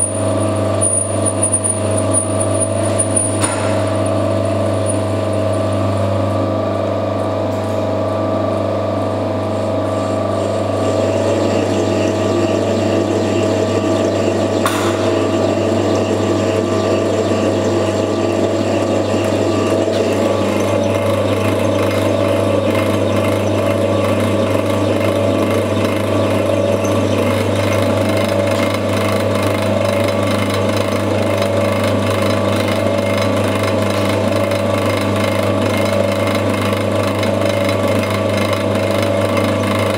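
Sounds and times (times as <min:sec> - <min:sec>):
lathe machine hum with cutting: 0:00.0 - 0:39.9.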